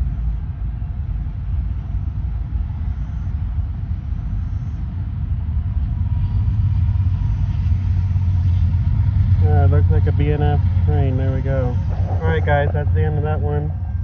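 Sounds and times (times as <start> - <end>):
diesel locomotive: 0.0 - 14.0
train wheels rumbling on rail: 0.0 - 14.0.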